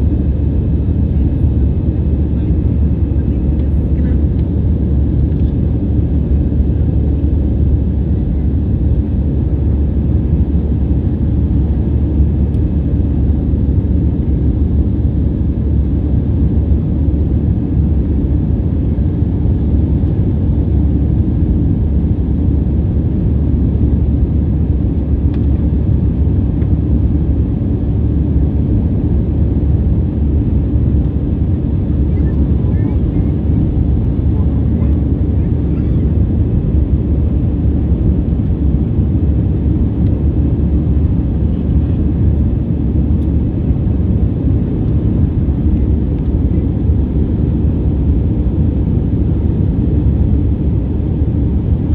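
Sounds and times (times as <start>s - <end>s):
airliner engine rumble: 0.0s - 51.9s.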